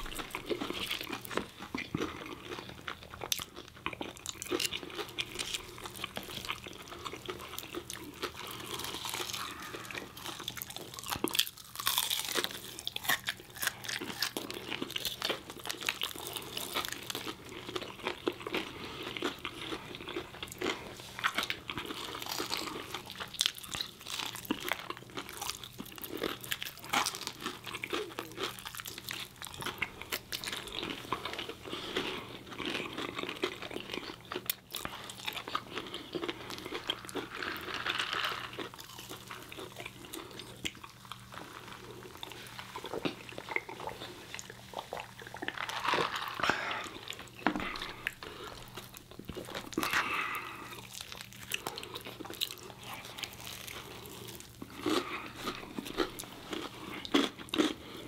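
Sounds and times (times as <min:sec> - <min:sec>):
crunching fried chicken: 0:00.0 - 0:58.0
wet chewing: 0:00.0 - 0:58.0.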